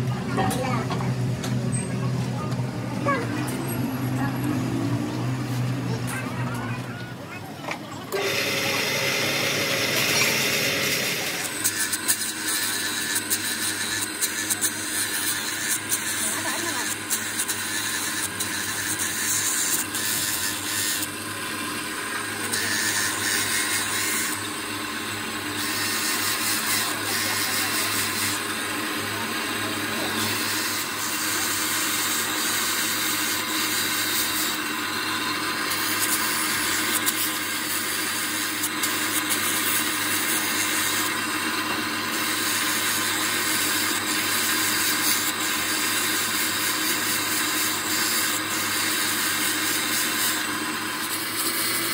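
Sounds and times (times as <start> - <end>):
grinding wheel cutting steel: 0.0 - 51.9.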